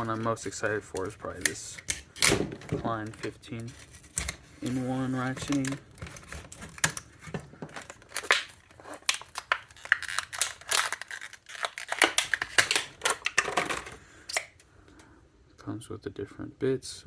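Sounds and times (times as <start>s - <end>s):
packaging crackling by hand: 0.0s - 14.5s.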